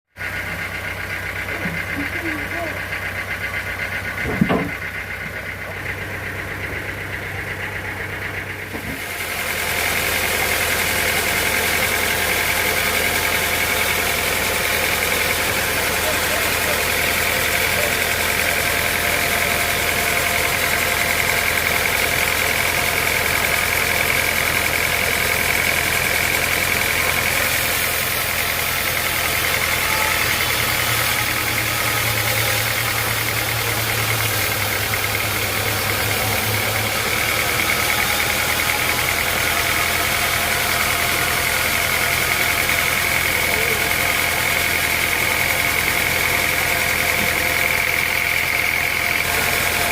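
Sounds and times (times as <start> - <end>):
sawmill motor hum: 0.2 - 49.9.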